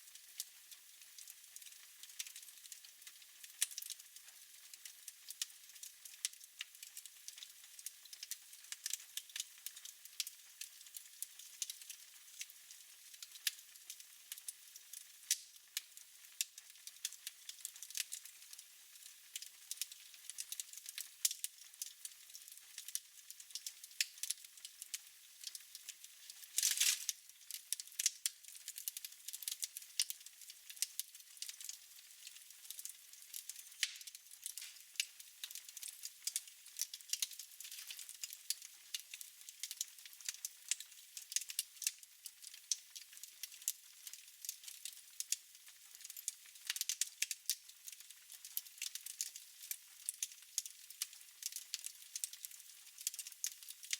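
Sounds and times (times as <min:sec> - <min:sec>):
wood fire crackling and popping: 0:00.1 - 0:53.9.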